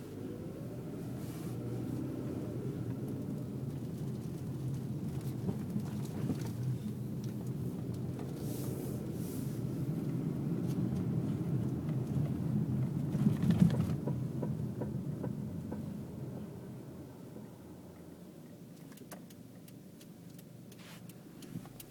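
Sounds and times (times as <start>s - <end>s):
car road rumble: 0.0s - 21.9s.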